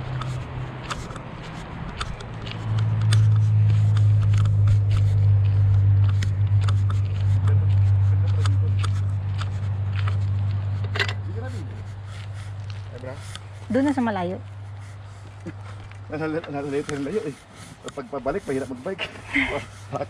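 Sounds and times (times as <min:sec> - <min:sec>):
small clicks and scrapes: 0:00.0 - 0:14.1, 0:14.7 - 0:20.0
footsteps crunching on gravel: 0:00.0 - 0:20.0
steady low rumble: 0:00.0 - 0:20.0.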